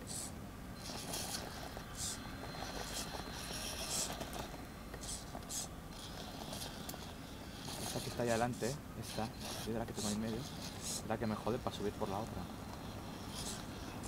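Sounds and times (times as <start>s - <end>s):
toy car electric motor whirring: 0.1s - 14.0s.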